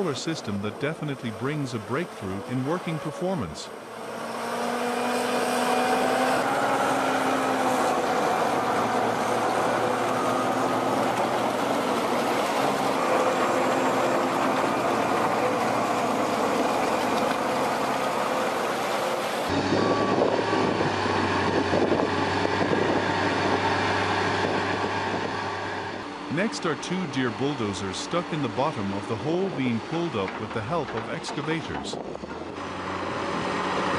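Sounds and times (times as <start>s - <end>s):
heavy diesel machinery running: 0.0s - 33.9s
low engine hum: 0.0s - 33.9s.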